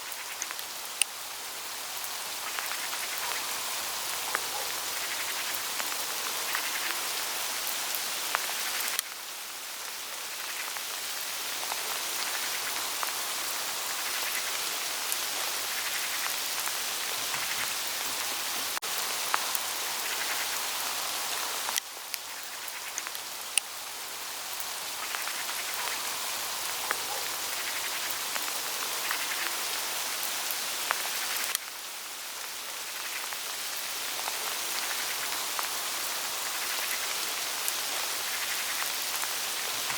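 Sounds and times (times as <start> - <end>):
hail pattering on leaves: 0.0 - 39.9.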